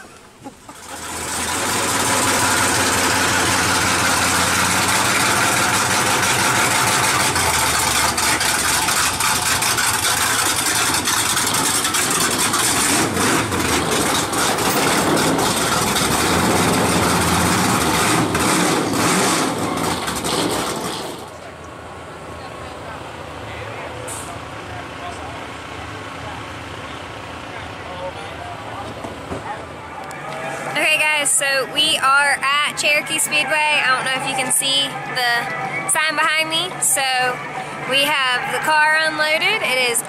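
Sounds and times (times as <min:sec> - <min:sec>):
race car engine idling: 0:00.0 - 0:40.0.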